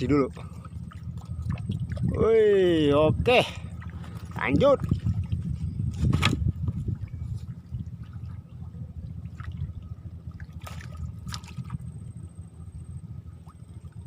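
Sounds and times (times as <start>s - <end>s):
steady low rumble: 0.0s - 14.0s
water trickling and sloshing: 0.0s - 14.0s.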